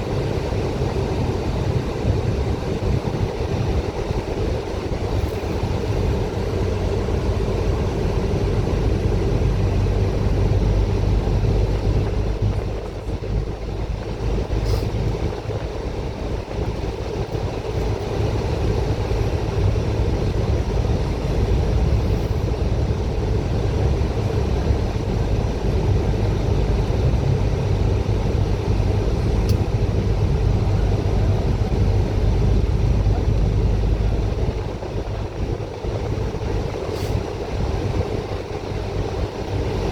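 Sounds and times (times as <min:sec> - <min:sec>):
bus engine drone: 0:00.0 - 0:39.9
road noise: 0:00.0 - 0:39.9.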